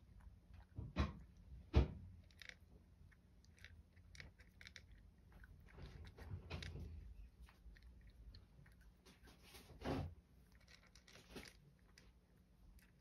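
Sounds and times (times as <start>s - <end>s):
cat crunching dry kibble: 0.0s - 13.0s.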